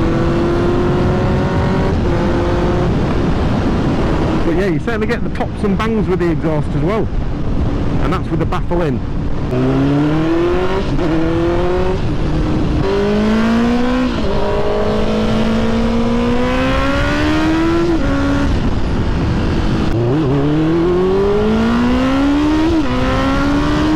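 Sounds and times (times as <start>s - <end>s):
motorcycle engine accelerating: 0.0s - 4.6s, 9.1s - 23.9s.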